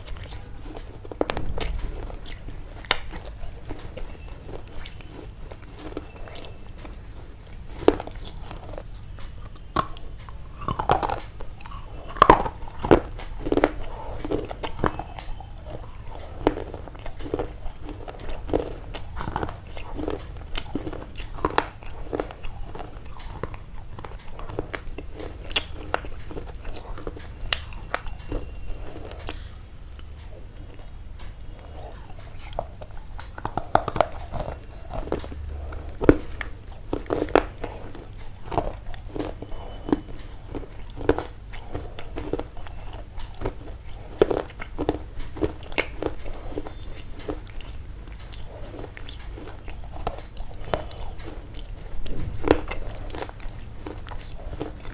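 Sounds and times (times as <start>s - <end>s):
chewing and crunching: 0.0s - 54.9s
low steady hum: 0.0s - 54.9s.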